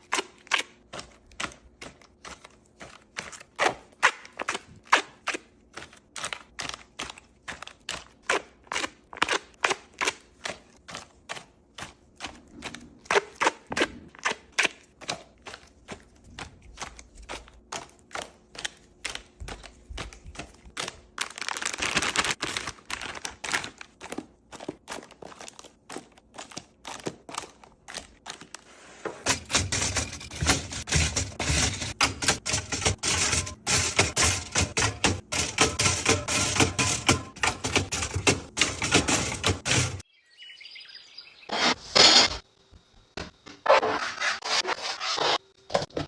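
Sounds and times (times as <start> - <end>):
packaged items clicking and tapping: 0.0 - 40.0.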